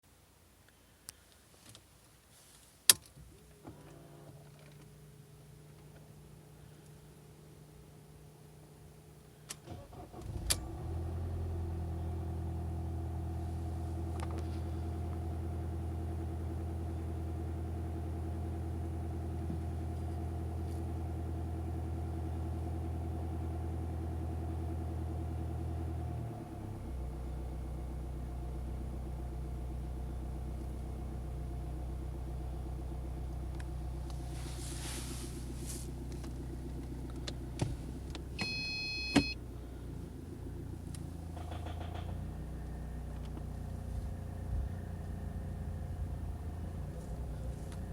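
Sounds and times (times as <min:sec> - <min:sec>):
diesel engine idling: 0:05.0 - 0:47.9.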